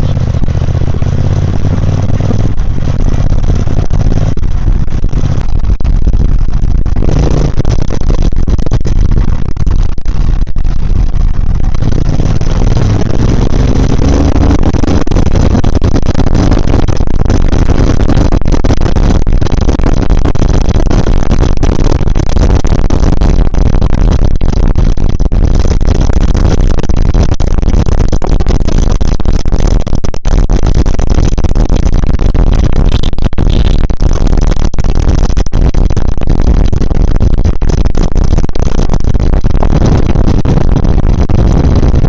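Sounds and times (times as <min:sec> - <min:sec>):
motorcycle engine running: 0:00.0 - 0:42.0
wind rush on microphone: 0:00.0 - 0:42.0.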